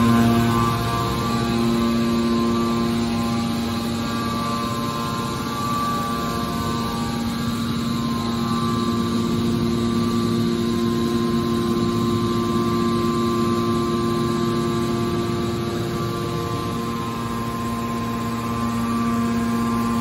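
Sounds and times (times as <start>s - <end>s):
hydraulic pump motor hum: 0.0s - 20.0s.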